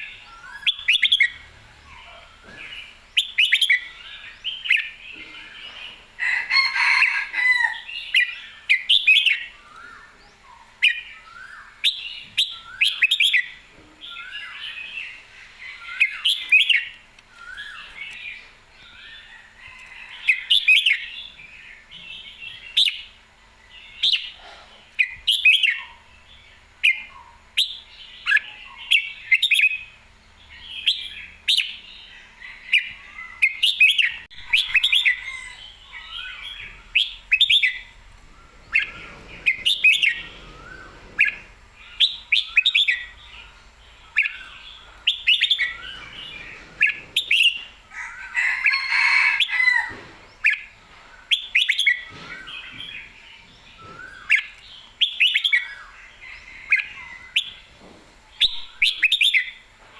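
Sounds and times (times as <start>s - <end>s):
bird singing warbled phrases: 0.0s - 57.7s.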